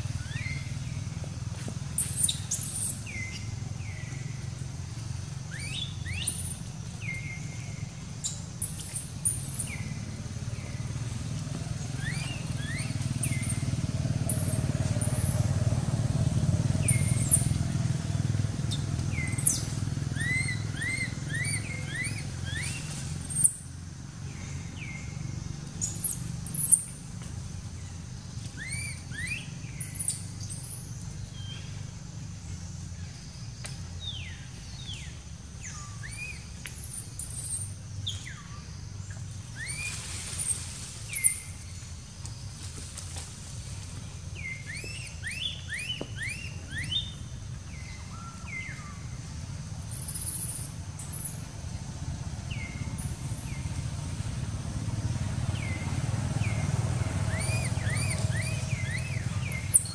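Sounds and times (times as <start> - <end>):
birds chirping and whistling: 0.0 - 42.5, 44.0 - 54.1, 54.9 - 59.9.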